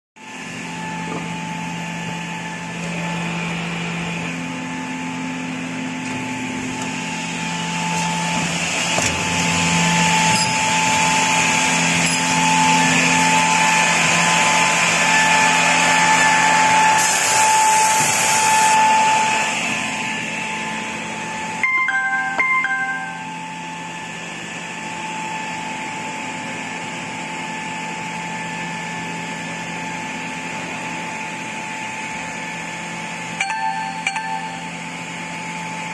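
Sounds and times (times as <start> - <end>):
machine motors humming and whining: 0.2 - 35.9.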